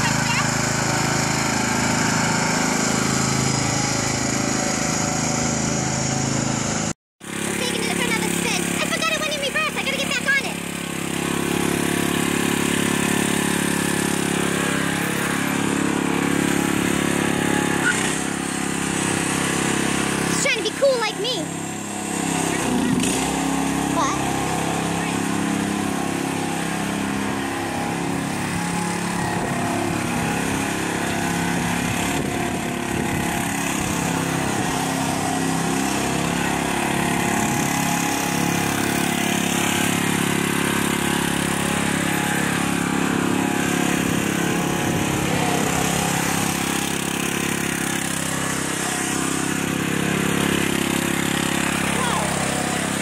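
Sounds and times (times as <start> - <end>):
lawn mower engine running: 0.0 - 53.0.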